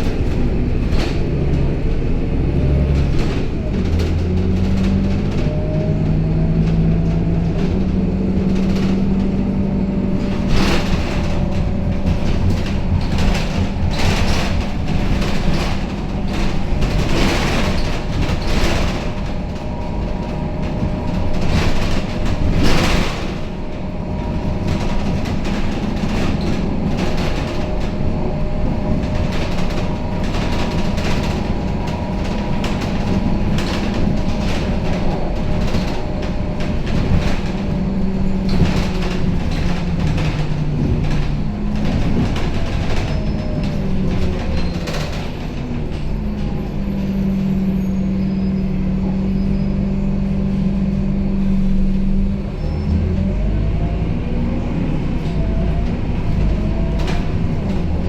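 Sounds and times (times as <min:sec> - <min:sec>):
bus body rattling and knocking: 0:00.0 - 0:58.0
bus engine running: 0:00.0 - 0:58.0.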